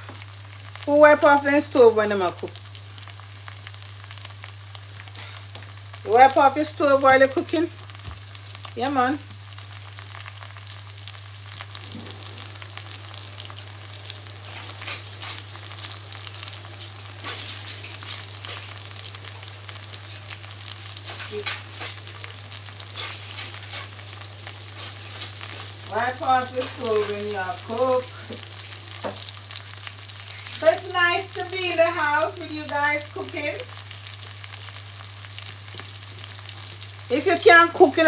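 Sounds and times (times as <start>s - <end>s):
peppers and onions sizzling: 0.0s - 38.0s.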